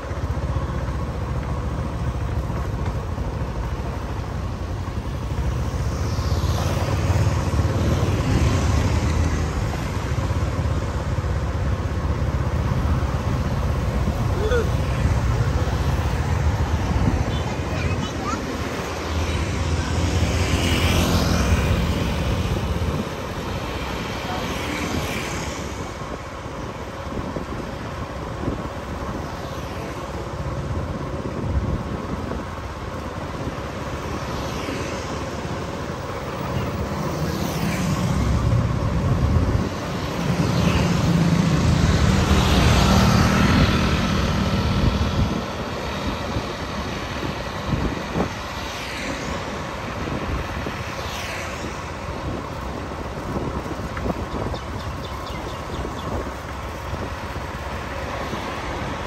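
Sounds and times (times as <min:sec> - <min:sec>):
vehicle engine and tyres drone: 0:00.0 - 0:59.0
vehicles swishing past: 0:00.0 - 0:59.0.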